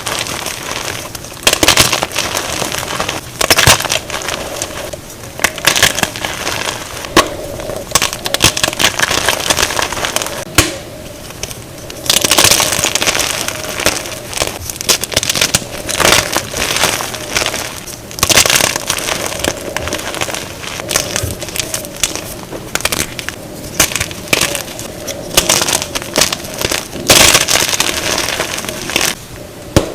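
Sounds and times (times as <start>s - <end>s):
chalk crushing and crackling: 0.0s - 10.5s, 11.2s - 29.2s.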